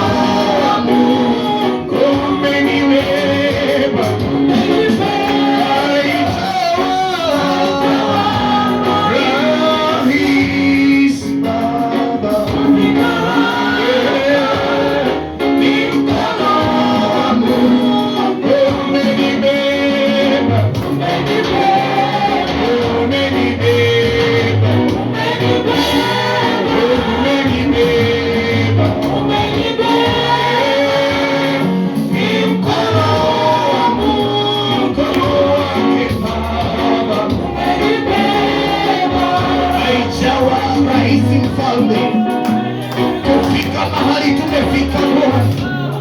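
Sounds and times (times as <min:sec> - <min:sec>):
instrumental accompaniment: 0:00.0 - 0:46.0
voices singing praise song: 0:00.0 - 0:46.0.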